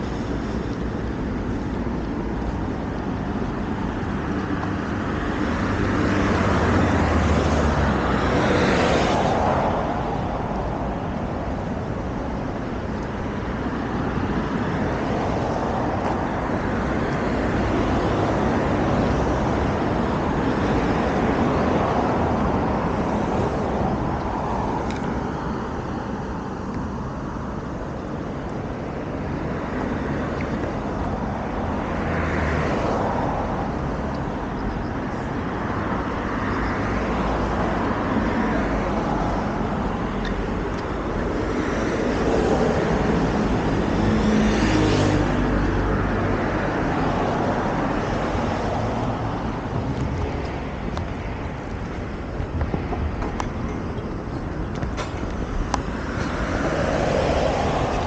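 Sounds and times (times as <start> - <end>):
cars passing on road: 0.0 - 58.0.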